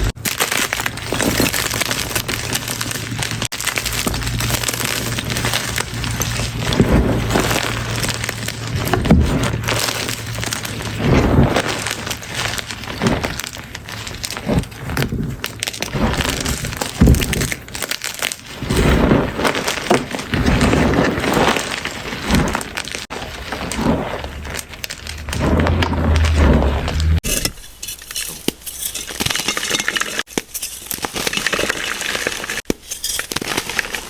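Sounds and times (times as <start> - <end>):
chalk crunching and cracking: 0.0 - 34.0.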